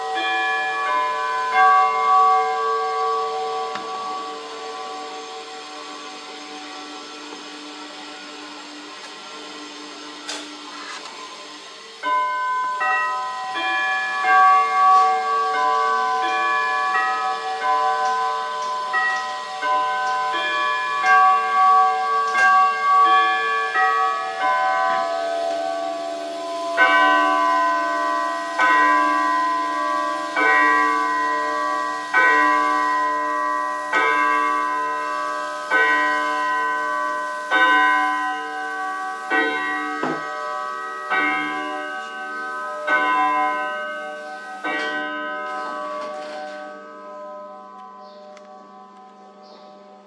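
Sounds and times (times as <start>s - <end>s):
wall clock striking: 0.0s - 5.1s, 12.0s - 47.0s.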